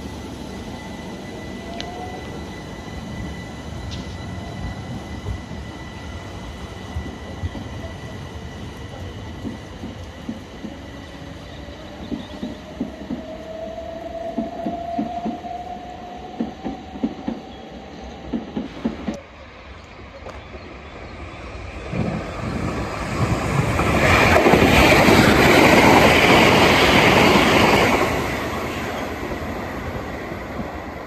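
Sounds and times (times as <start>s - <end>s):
electric train whine: 0.0s - 31.0s.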